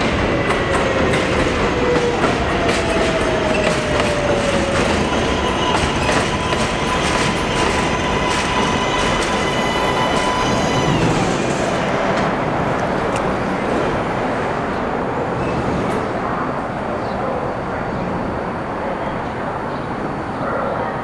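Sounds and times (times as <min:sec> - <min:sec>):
standing train rumble: 0:00.0 - 0:21.0
subway train high whine: 0:00.0 - 0:21.0.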